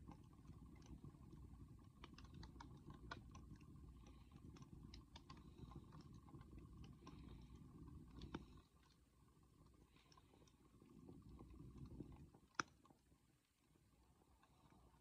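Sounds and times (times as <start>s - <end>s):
bonfire crackling: 0.0s - 15.0s
low steady rumble: 0.0s - 15.0s.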